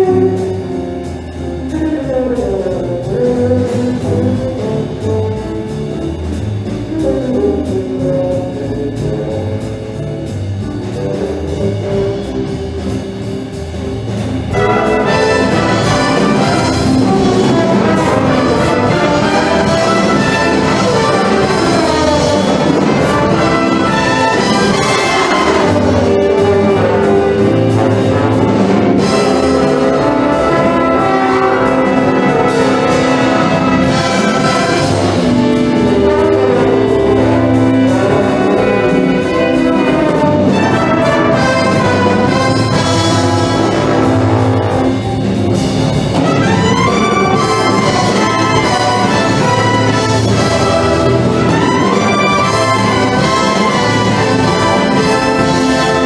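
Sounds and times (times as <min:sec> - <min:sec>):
brass big-band music: 0:00.0 - 0:56.0.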